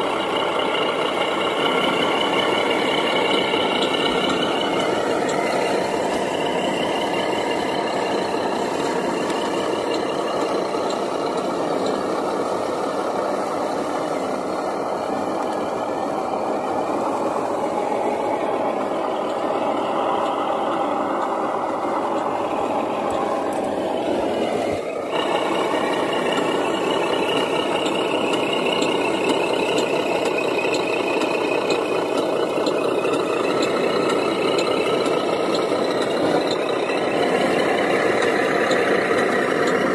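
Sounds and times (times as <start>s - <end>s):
toy truck motor whining: 0.0s - 39.9s.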